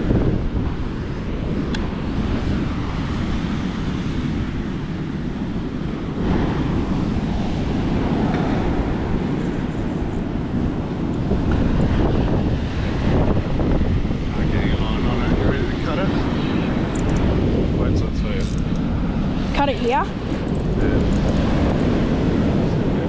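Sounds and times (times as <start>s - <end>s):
waves washing on shore: 0.0s - 23.0s
wind buffeting microphone: 0.0s - 23.0s.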